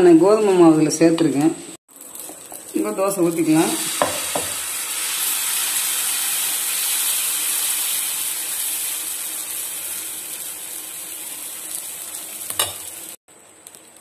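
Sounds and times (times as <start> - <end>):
batter sizzling on hot griddle: 1.8 - 14.0.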